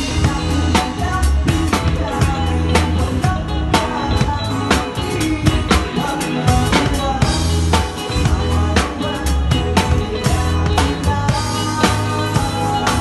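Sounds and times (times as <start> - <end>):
band playing pop-rock live: 0.0 - 13.0.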